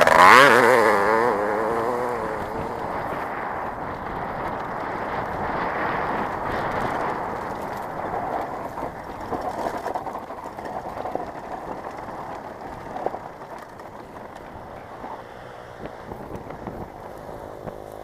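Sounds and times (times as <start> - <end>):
distant motocross bikes droning: 0.0 - 18.0.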